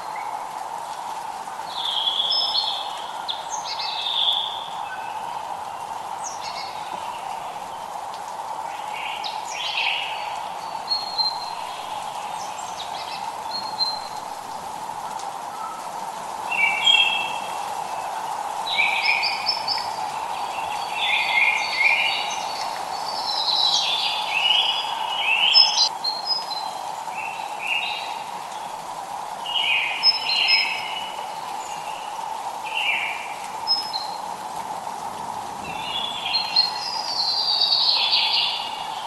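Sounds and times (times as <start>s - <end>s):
songbird chirping: 0.0s - 39.0s.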